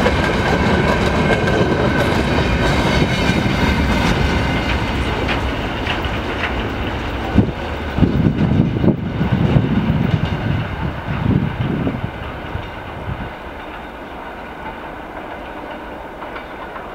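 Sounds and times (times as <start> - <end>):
train wheels clattering over rails: 0.0 - 16.9.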